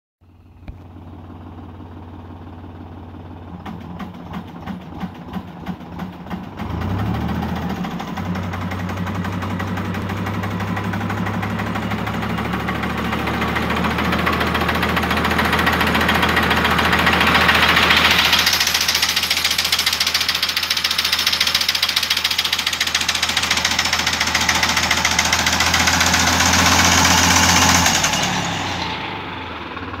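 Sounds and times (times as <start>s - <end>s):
tractor engine pulsing: 0.4s - 30.0s.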